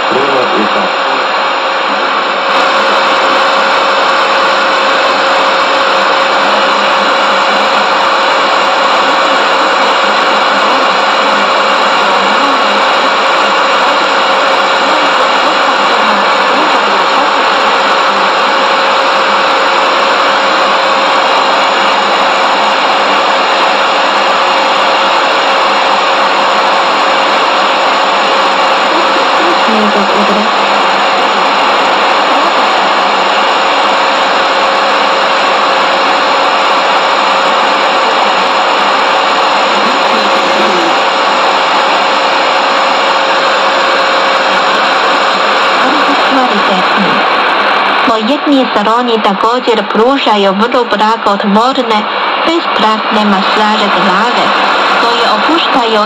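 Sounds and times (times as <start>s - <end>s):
radio static: 0.0s - 56.0s.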